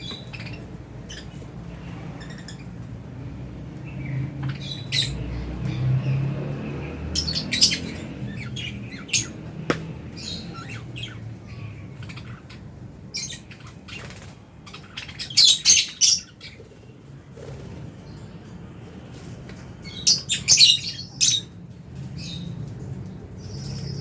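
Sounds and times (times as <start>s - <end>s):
lovebirds chirping and squawking: 0.0s - 24.0s.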